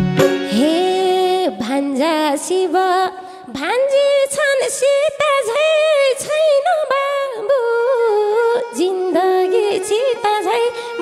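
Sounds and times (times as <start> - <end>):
woman singing: 0.4 - 11.0.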